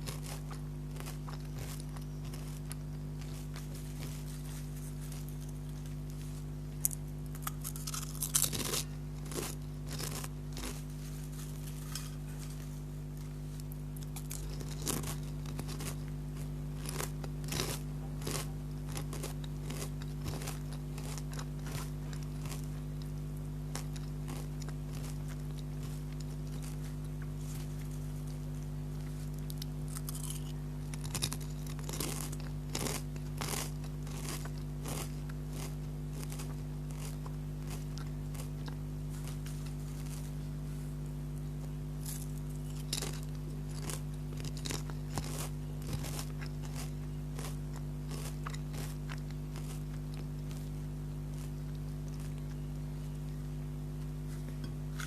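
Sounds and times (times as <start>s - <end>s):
potato chips crunching: 0.0s - 55.0s
steady low hum: 0.0s - 55.0s.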